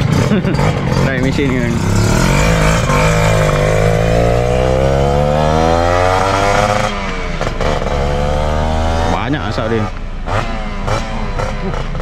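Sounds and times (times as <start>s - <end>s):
two-stroke engine revving: 0.0s - 12.0s.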